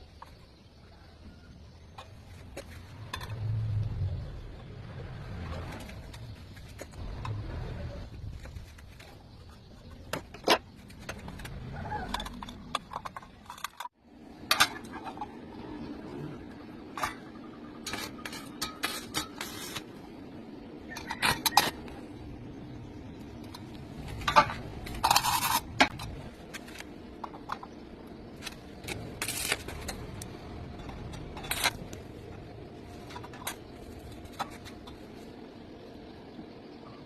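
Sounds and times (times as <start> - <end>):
steel clinking and scraping: 1.8 - 4.4, 5.3 - 22.3, 23.2 - 35.7.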